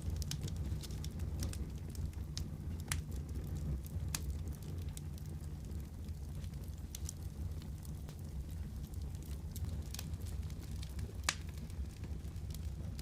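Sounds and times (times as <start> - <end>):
fire crackling and popping: 0.0 - 13.0
low rumble of fire: 0.0 - 13.0.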